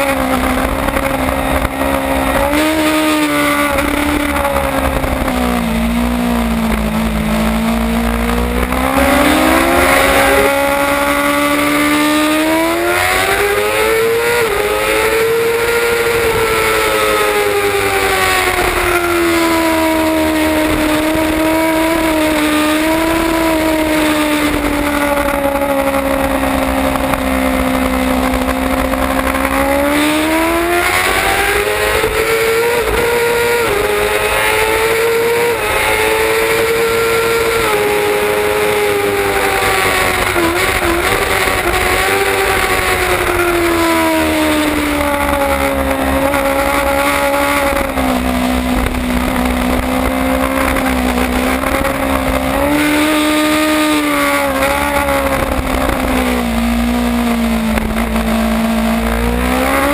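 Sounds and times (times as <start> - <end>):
wind rushing over microphone: 0.0 - 58.3
motorcycle engine running hard: 0.0 - 59.9.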